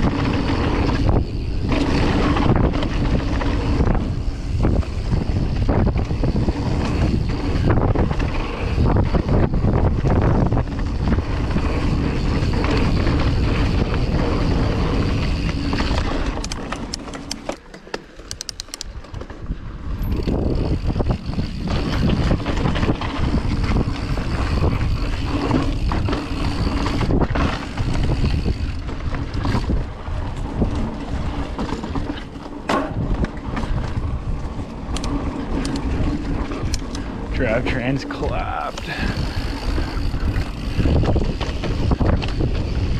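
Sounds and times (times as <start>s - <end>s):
wind rushing over microphone: 0.0s - 17.0s, 18.9s - 42.9s
bike freewheel ticking: 0.0s - 17.5s, 19.9s - 32.2s, 33.3s - 42.9s
bike rattling: 0.0s - 42.9s.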